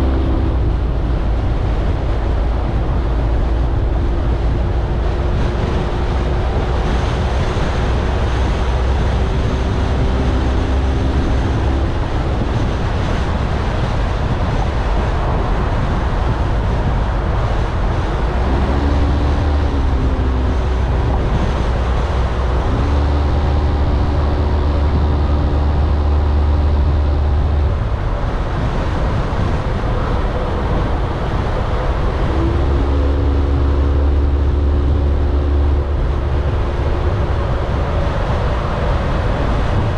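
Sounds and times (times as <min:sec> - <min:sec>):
low engine hum: 0:00.0 - 0:39.9
road and tyre noise: 0:00.0 - 0:39.9.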